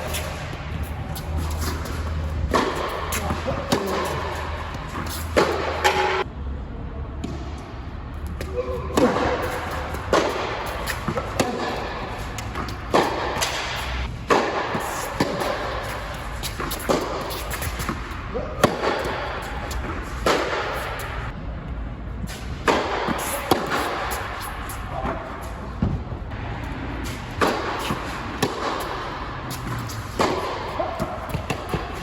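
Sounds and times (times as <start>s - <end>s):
tennis ball bouncing: 0.0s - 6.2s, 8.4s - 21.2s, 22.6s - 26.0s, 26.7s - 32.0s
tennis racquet hitting ball: 0.0s - 6.2s, 8.4s - 21.3s, 22.3s - 26.0s, 26.7s - 32.0s.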